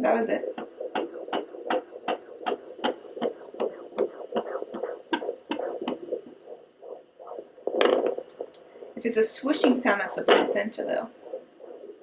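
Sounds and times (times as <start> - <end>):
fast heartbeat over loudspeaker: 0.0 - 12.0.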